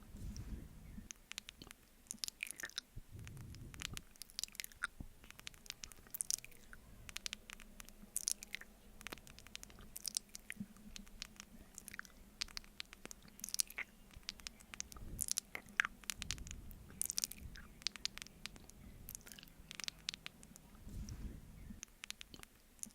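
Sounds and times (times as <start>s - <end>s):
wet mouth eating sounds: 0.2s - 22.9s.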